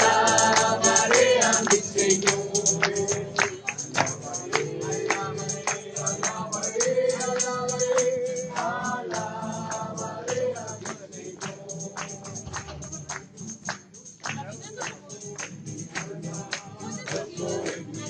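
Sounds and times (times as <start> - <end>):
group singing: 0.0 - 13.0, 15.8 - 18.0
tambourine struck in rhythm: 0.0 - 18.0.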